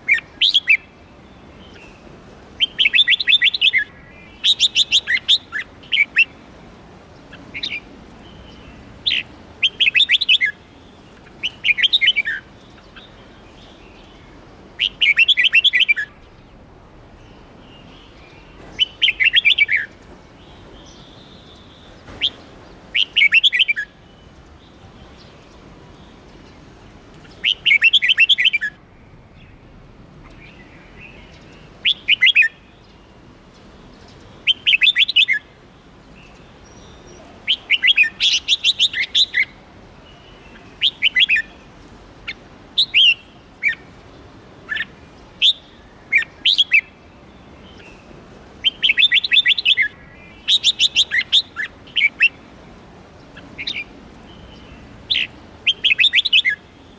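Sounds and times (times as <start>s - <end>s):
bird chirping: 0.0s - 6.5s, 7.2s - 16.6s, 17.2s - 56.9s.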